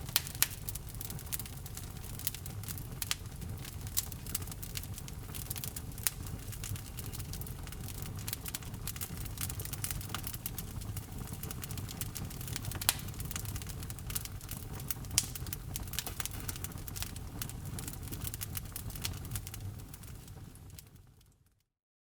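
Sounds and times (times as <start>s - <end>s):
burning wood pops: 0.0s - 20.9s
wood fire crackling: 0.0s - 21.5s.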